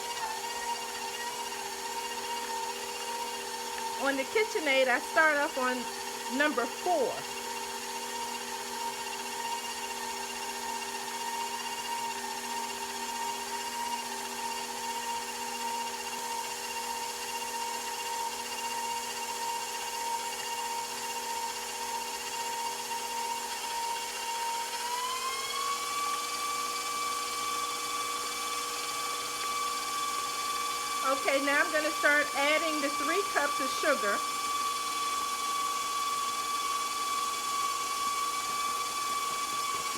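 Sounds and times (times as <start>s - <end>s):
stand mixer motor whining: 0.0s - 39.9s.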